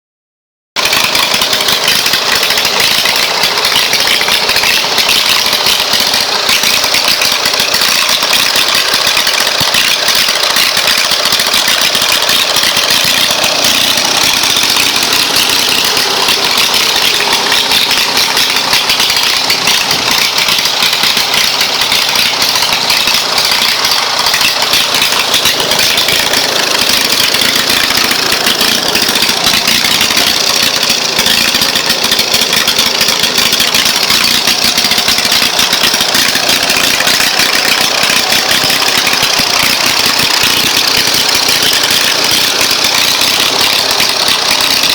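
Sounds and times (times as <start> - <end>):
lawn mower engine idling: 0.8 - 44.9.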